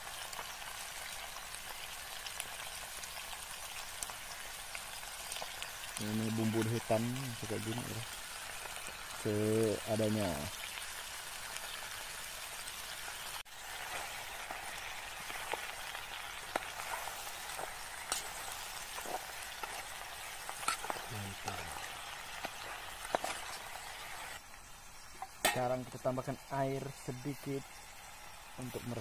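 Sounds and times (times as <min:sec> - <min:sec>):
fish sizzling in a pot: 0:00.0 - 0:29.0.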